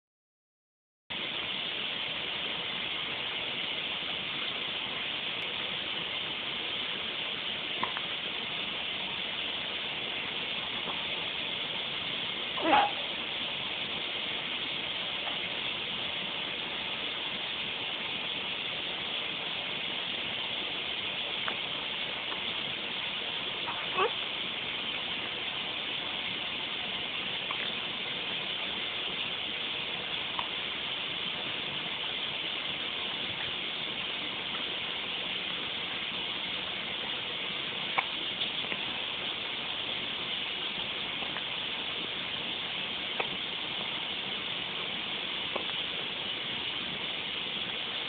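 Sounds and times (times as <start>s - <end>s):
steady hiss: 1.1s - 48.0s.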